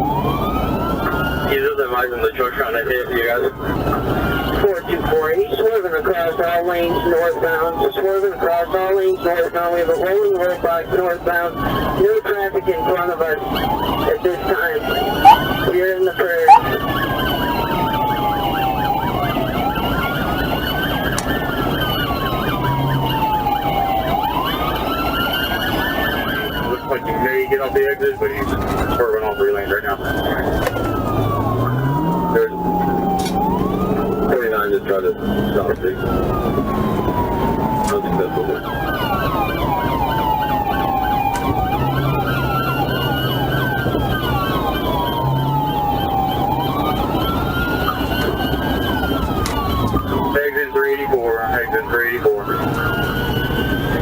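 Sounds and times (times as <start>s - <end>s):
police siren wailing: 0.0s - 54.0s
police siren yelping: 0.0s - 54.0s
road and engine noise: 0.0s - 54.0s.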